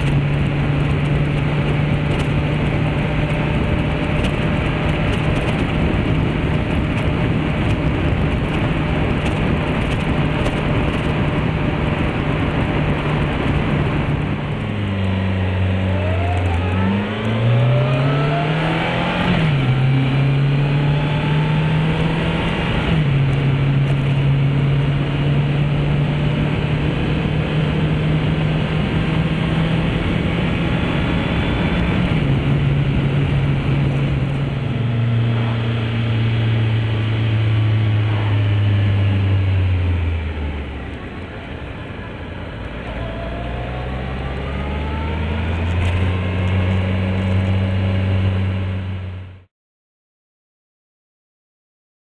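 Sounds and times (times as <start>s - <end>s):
motorcycle engine running: 0.0s - 18.6s, 19.5s - 49.4s
steady rushing noise: 0.0s - 46.8s.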